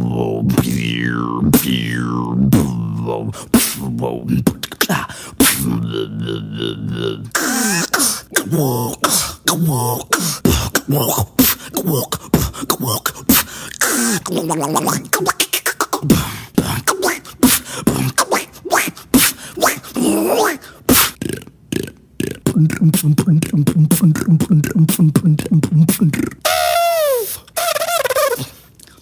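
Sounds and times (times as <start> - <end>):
beatboxing: 0.0 - 29.0.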